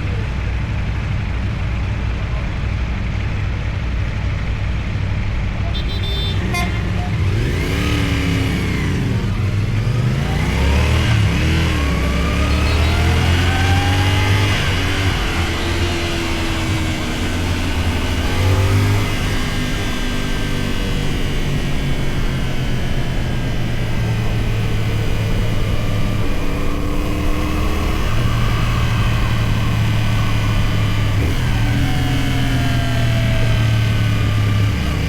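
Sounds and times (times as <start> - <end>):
motorcycle engine revving: 5.7 - 35.0.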